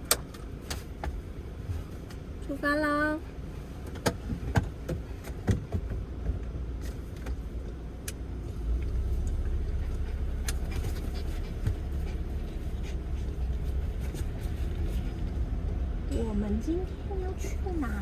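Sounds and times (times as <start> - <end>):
van driving rumble: 0.0 - 18.0.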